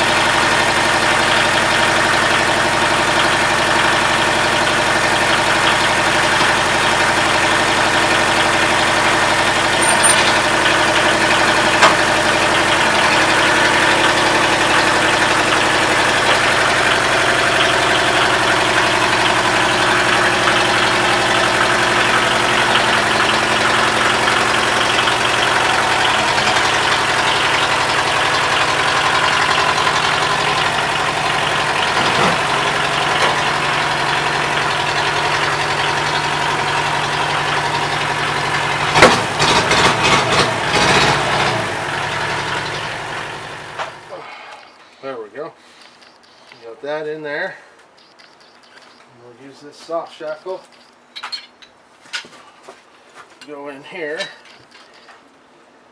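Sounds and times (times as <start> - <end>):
tractor engine running: 0.0 - 51.9, 53.9 - 55.8.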